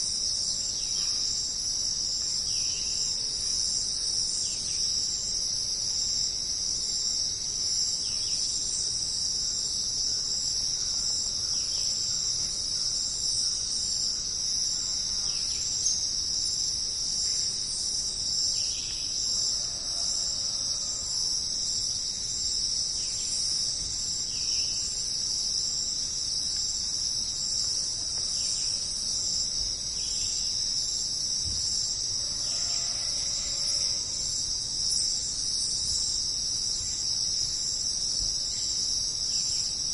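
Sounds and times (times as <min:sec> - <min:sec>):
chorus of rainforest insects: 0:00.0 - 0:39.9.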